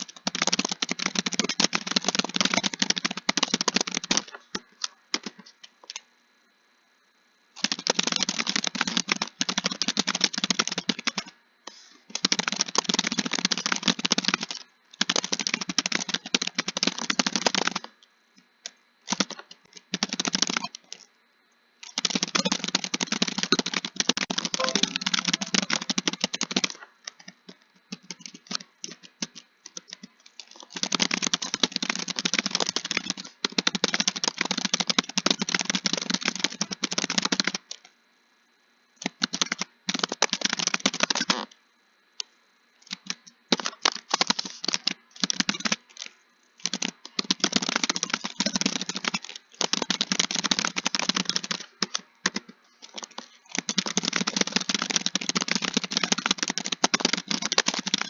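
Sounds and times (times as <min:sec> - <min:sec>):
fast typing on keyboard: 0:00.0 - 0:06.0, 0:07.6 - 0:11.4, 0:12.1 - 0:18.0, 0:18.6 - 0:21.0, 0:21.8 - 0:37.9, 0:39.0 - 0:41.6, 0:42.8 - 0:58.0.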